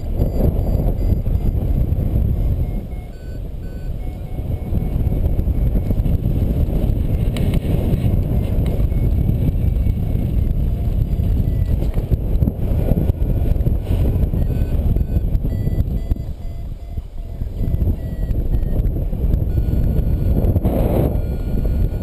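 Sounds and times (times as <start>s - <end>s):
variometer beeps: 0.0s - 22.0s
wind buffeting microphone: 0.0s - 22.0s.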